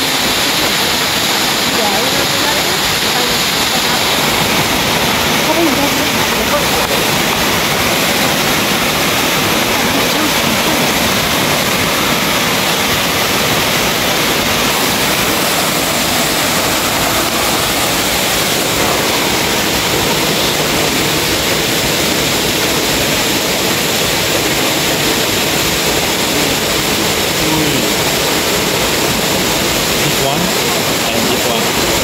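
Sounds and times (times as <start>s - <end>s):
waterfall rushing into pool: 0.0s - 32.0s.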